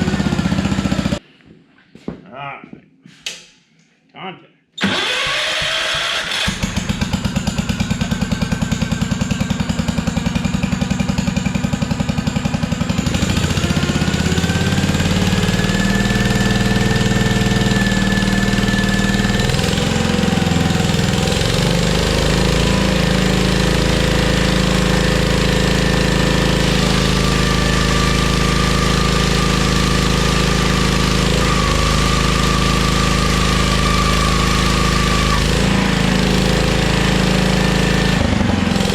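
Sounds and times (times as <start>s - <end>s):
small engine starting and running: 0.0s - 1.2s, 4.8s - 38.9s.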